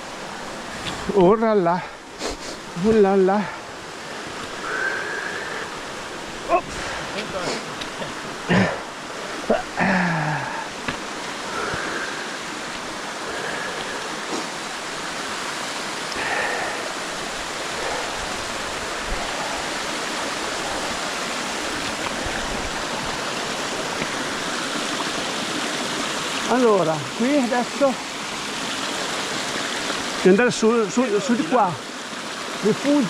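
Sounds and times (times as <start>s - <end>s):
water rushing: 0.0s - 33.0s.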